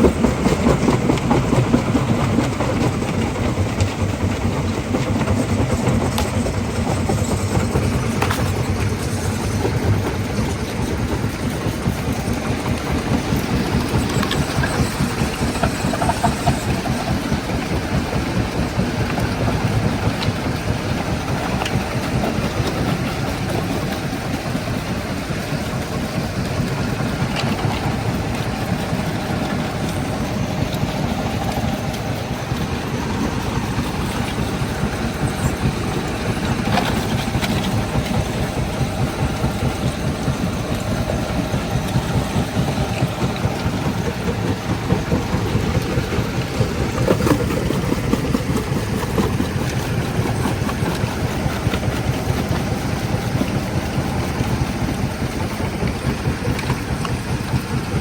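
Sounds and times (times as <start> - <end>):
crusher machinery low rumble: 0.0 - 58.0.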